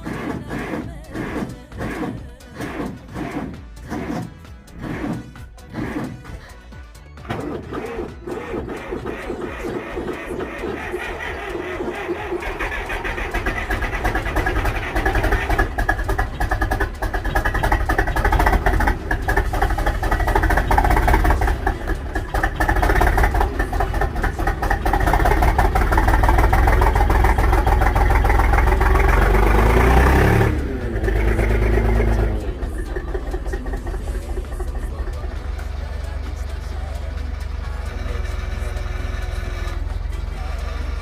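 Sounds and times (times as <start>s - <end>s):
diesel tractor engine clattering: 0.0s - 41.0s.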